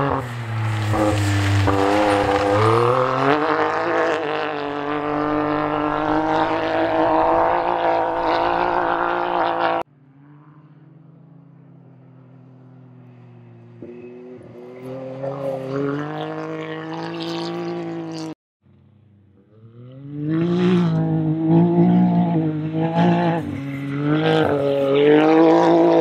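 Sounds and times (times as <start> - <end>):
race car engine at high revs: 0.0 - 11.2, 12.8 - 18.4, 19.4 - 26.0.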